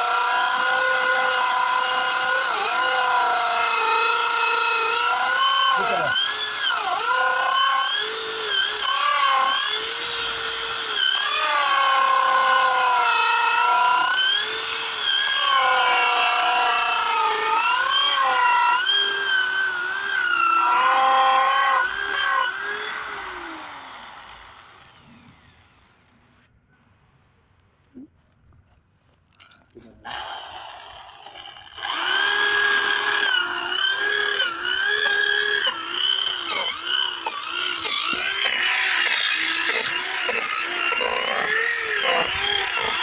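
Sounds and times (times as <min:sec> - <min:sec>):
small motor whining: 0:00.0 - 0:27.2, 0:29.4 - 0:43.0.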